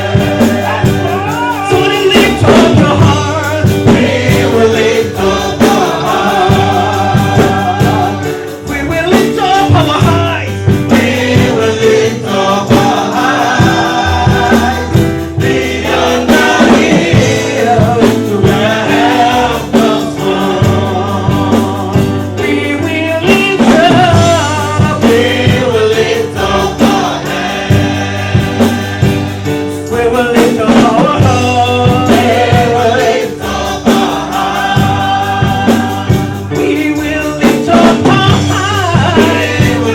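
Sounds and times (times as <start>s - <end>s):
band with bass and percussion: 0.0s - 39.9s
choir and congregation singing: 0.0s - 39.9s.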